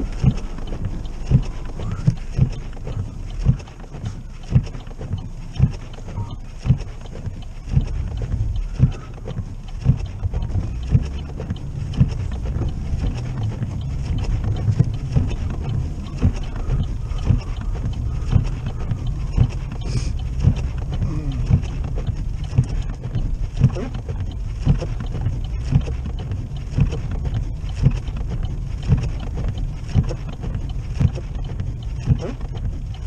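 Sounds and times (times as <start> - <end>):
car rumbling through snow: 0.0 - 33.0
windshield wipers thumping: 0.0 - 33.0.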